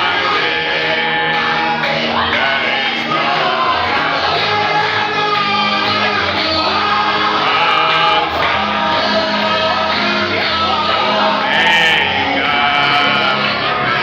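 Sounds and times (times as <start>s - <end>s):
held bass notes: 0.0s - 14.0s
voices singing: 0.0s - 14.0s.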